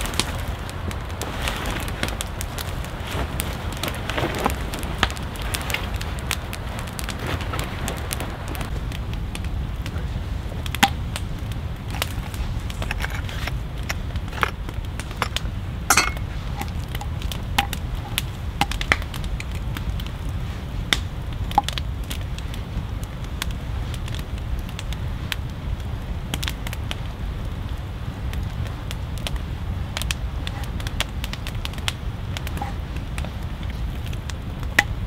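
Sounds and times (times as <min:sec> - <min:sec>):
steady low rumble: 0:00.0 - 0:35.0
wood fire crackling: 0:00.0 - 0:35.0.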